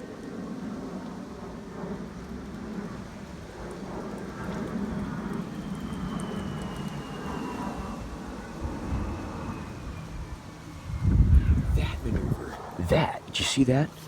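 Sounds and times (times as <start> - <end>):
jet engine high whine: 0.0 - 14.0
jet engines rushing past: 0.0 - 14.0.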